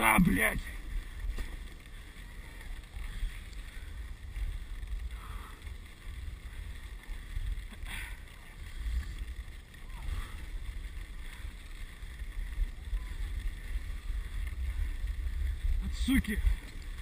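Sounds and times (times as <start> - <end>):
wind and sled runner rumble: 0.0 - 17.0.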